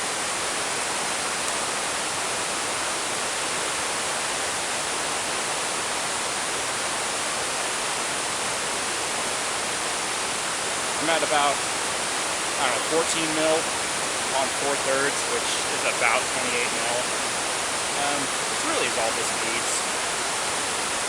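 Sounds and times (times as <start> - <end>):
stream and small waterfall rushing: 0.0 - 21.0.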